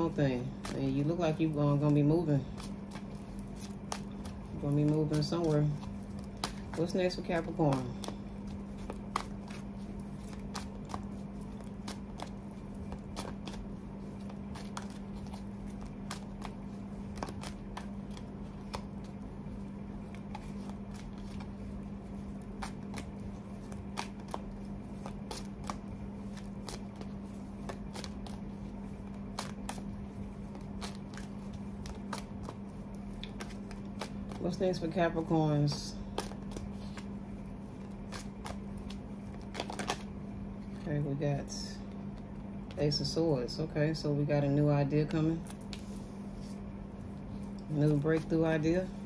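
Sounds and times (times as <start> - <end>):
cards being shuffled: 0.0 - 40.9
steady low hum: 0.0 - 49.0.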